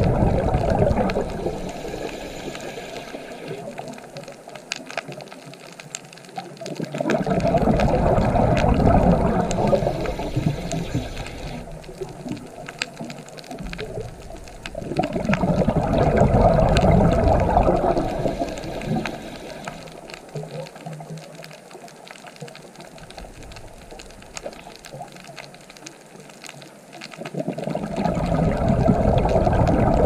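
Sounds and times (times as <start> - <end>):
underwater bubbles rumbling: 0.0 - 30.0.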